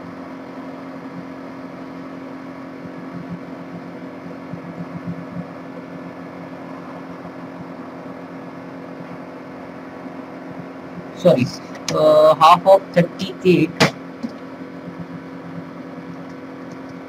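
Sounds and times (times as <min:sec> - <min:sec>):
room hum and hiss: 0:00.0 - 0:17.0.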